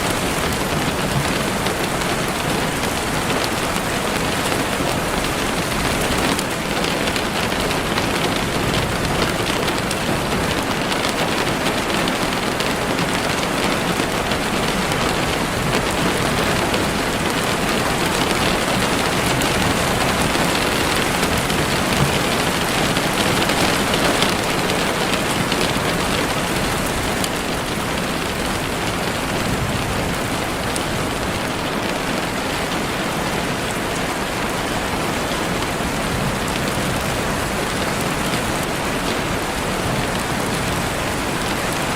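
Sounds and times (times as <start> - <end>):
heavy rain on leaves: 0.0 - 41.9.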